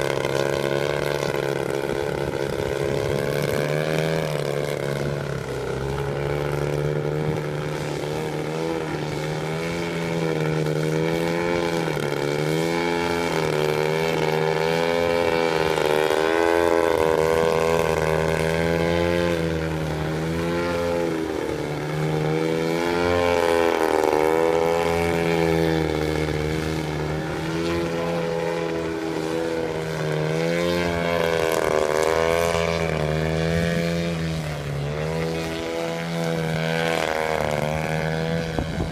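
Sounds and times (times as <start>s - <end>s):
model airplane engine and propeller: 0.0s - 38.9s.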